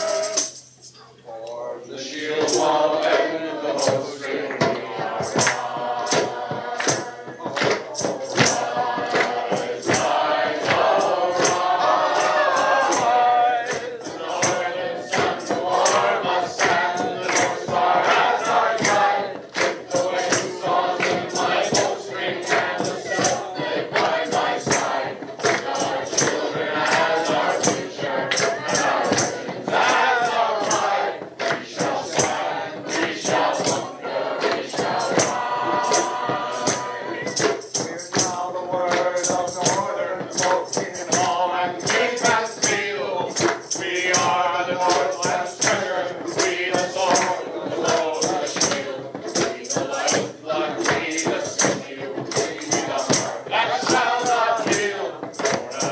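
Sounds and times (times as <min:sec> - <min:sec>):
choir singing: 0:01.6 - 0:55.9
sharp percussive strikes: 0:02.4 - 0:55.9.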